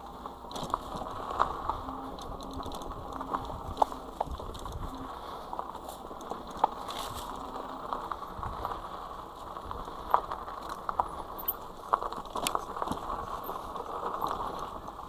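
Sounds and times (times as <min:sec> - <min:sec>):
bike clicks and knocks: 0:00.0 - 0:15.0
bike tyres rolling on dirt: 0:00.0 - 0:15.0.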